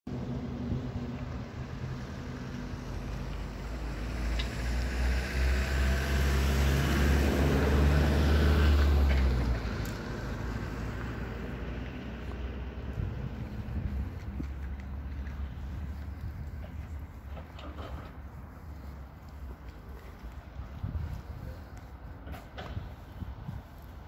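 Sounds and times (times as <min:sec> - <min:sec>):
vehicle engine rumbling: 0:00.1 - 0:24.0.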